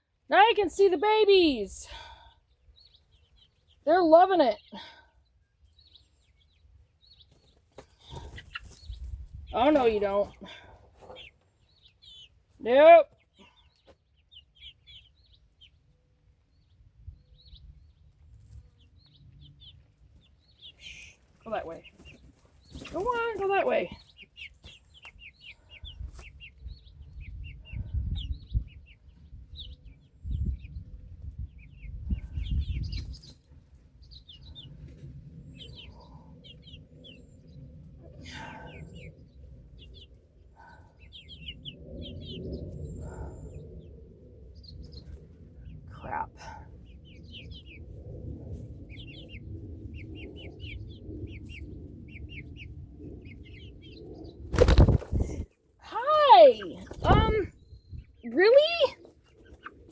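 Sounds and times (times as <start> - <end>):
chicks peeping: 0.4 - 59.9.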